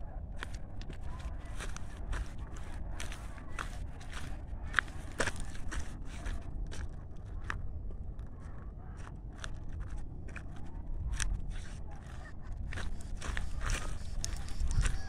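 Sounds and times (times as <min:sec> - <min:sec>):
footsteps crunching on gravel: 0:00.3 - 0:15.0.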